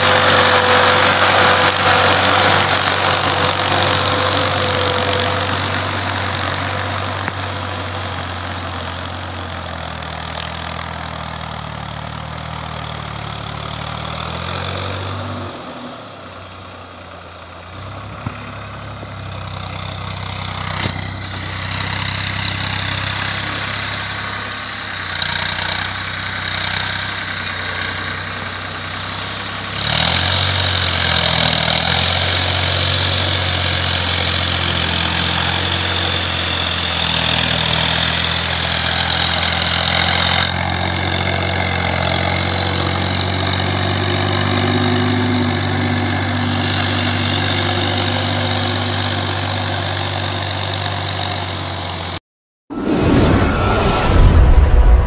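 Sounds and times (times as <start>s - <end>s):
diesel tractor engine under load: 0.0s - 52.2s.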